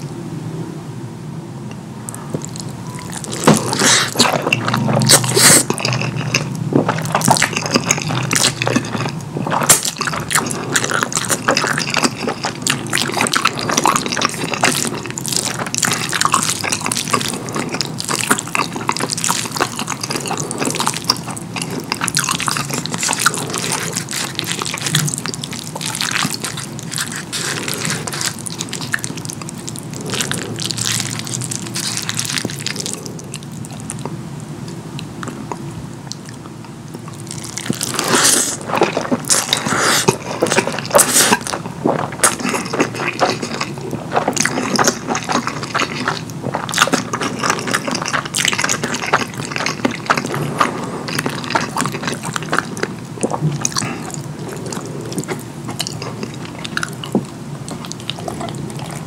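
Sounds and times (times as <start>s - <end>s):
wet chewing: 2.1s - 34.2s, 35.0s - 59.0s.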